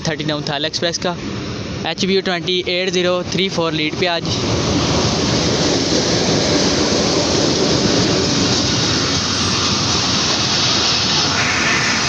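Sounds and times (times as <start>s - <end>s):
passenger train rolling past: 0.8s - 12.0s.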